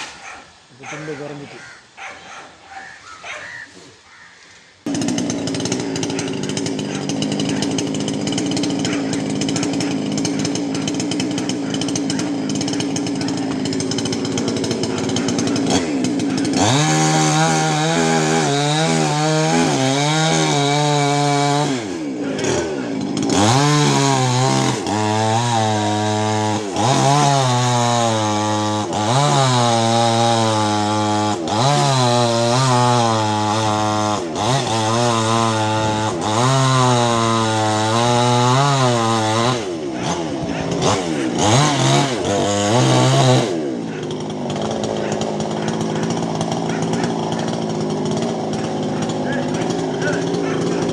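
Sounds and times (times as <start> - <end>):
chainsaw cutting a tree: 0.0 - 1.8, 4.8 - 50.9.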